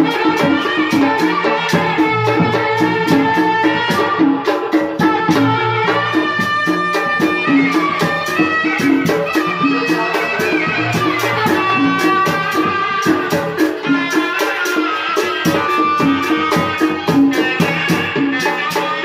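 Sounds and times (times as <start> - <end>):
drum and cymbal beat: 0.0 - 19.0
held melody notes: 0.0 - 19.0.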